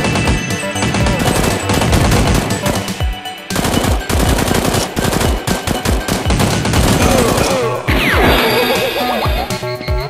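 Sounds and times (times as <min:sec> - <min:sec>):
rapid automatic gunfire: 0:00.0 - 0:08.5.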